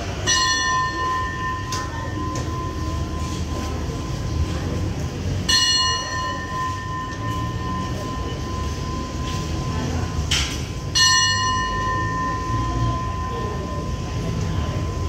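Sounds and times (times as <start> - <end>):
platform bell ringing: 0.0 - 15.0
train rumbling: 0.0 - 15.0.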